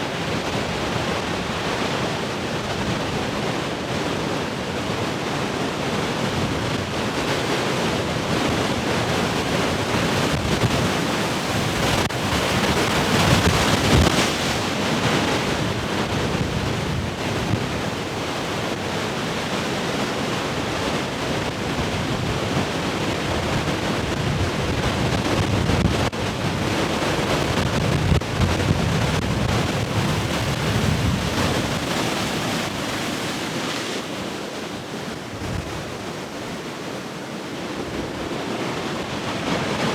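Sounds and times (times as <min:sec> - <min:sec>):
ocean waves breaking: 0:00.0 - 0:39.9
wind buffeting the microphone: 0:00.0 - 0:39.9.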